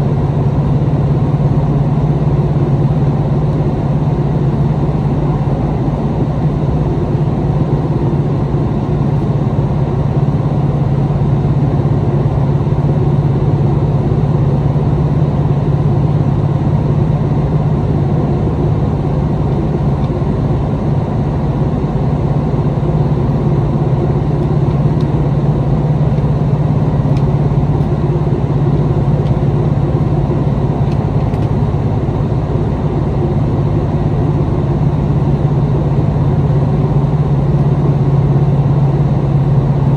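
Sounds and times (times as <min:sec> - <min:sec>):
diesel railcar droning: 0:00.0 - 0:39.9.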